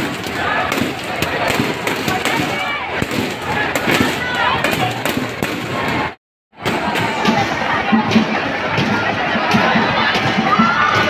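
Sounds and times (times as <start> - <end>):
crowd chanting and shouting: 0.0 - 11.0.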